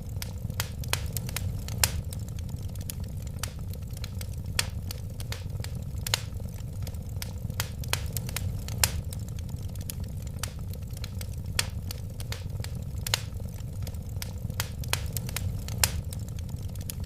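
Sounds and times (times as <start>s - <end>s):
low rumble of flames: 0.0s - 17.0s
wood fire crackles and pops: 0.0s - 17.0s.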